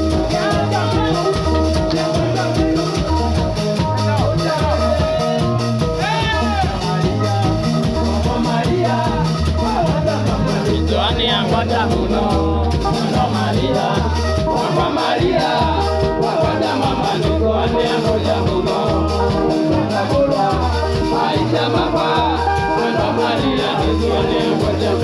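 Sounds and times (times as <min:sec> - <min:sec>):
bass beat: 0:00.0 - 0:25.0
electric guitars: 0:00.0 - 0:25.0
man singing into a microphone: 0:00.0 - 0:25.0.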